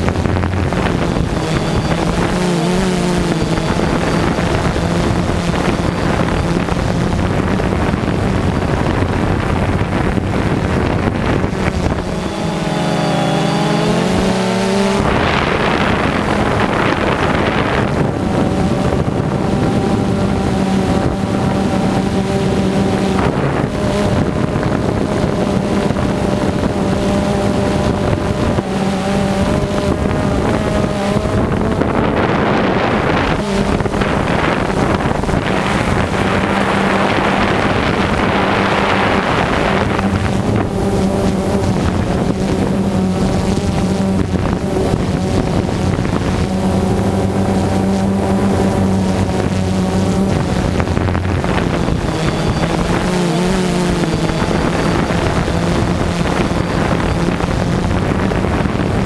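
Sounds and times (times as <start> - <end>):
drone propellers whirring: 0.0 - 59.0
wind buffeting microphone: 0.0 - 59.0.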